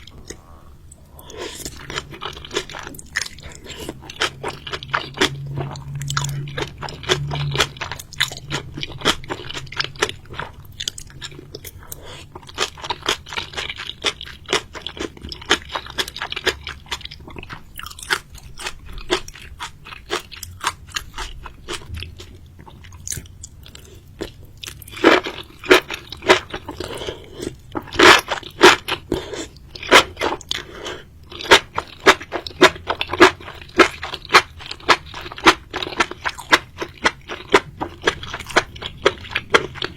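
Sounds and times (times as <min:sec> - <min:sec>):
chewing and crunching seafood: 0:00.0 - 0:39.9.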